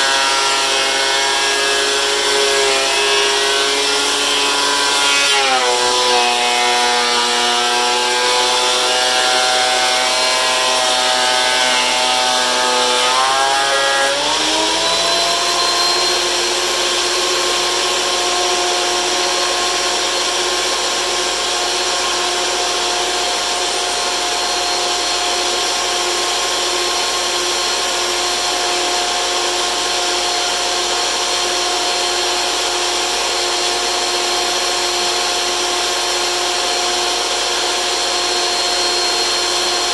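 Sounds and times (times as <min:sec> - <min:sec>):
thickness planer motor whine: 0:00.0 - 0:39.9.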